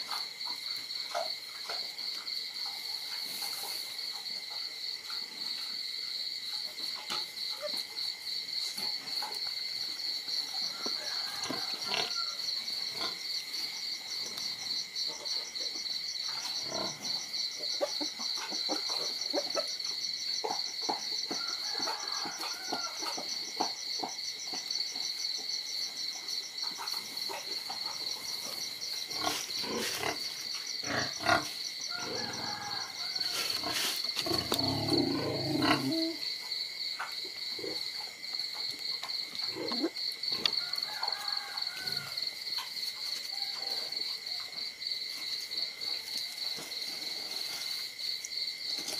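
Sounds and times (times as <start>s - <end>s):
crickets trilling: 0.0s - 48.9s
rapidly pulsing insect call: 0.0s - 48.9s.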